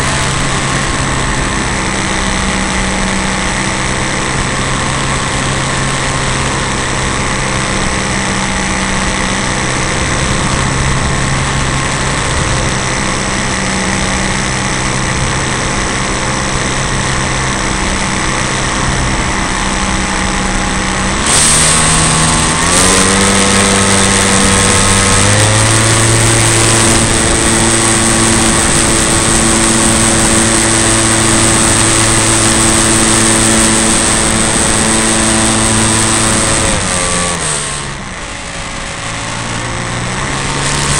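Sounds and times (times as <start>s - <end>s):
model airplane engine and propeller: 0.0s - 40.9s.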